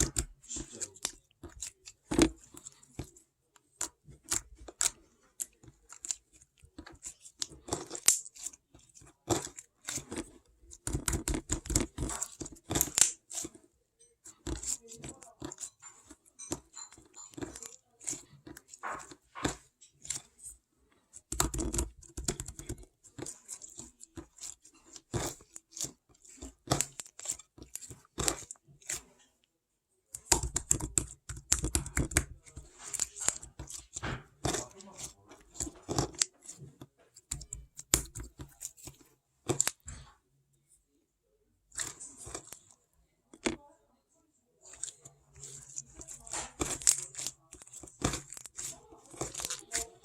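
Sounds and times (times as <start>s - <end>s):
chewing kiwi fruit: 0.0s - 29.4s, 30.1s - 40.1s, 44.6s - 50.0s.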